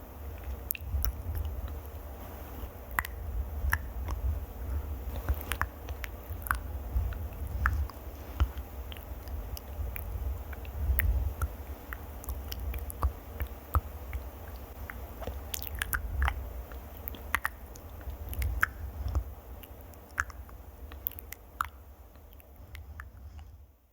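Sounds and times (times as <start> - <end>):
low rumble: 0.0 - 23.8
wet mouth clicks and smacks: 0.3 - 2.0, 2.9 - 4.3, 5.1 - 23.2.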